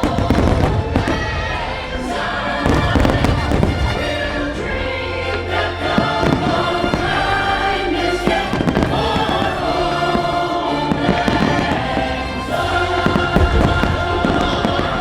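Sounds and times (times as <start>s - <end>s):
fireworks bursting and crackling: 0.0s - 5.1s, 5.9s - 15.0s
orchestral music with choir: 0.0s - 15.0s.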